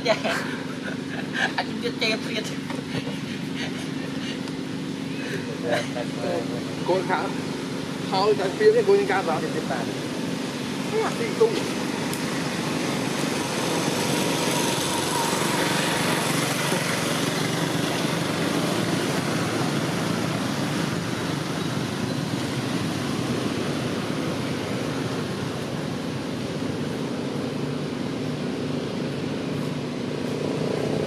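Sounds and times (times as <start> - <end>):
small engine running: 0.2 - 31.0.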